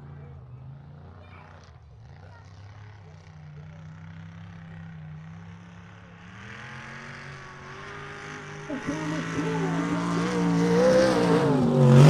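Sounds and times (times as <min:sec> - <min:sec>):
truck engine revving: 0:02.2 - 0:12.0.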